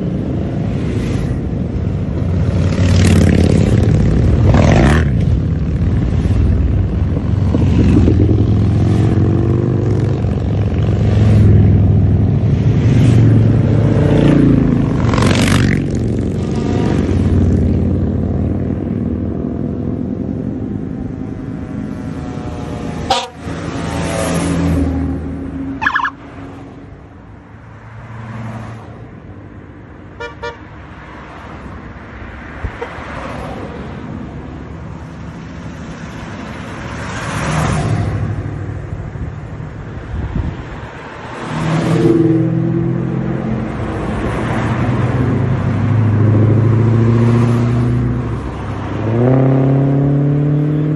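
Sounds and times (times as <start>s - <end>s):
motorcycle engines rumbling: 0.0s - 27.9s, 28.7s - 50.9s.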